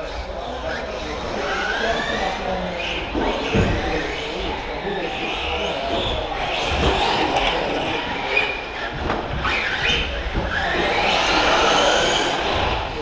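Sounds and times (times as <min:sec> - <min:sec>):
electric rc truck motors whining: 0:00.0 - 0:13.0.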